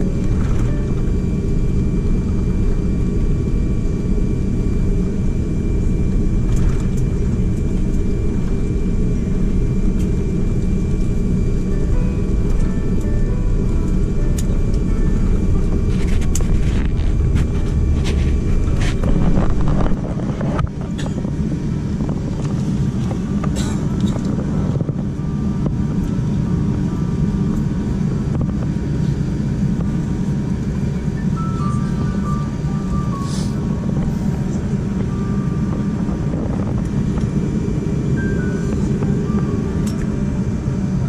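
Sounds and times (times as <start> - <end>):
jet engines idling low rumble: 0.0 - 41.0.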